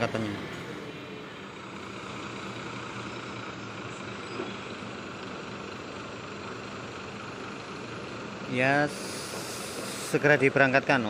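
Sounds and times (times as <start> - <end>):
diesel bus engine idling: 0.0 - 11.0.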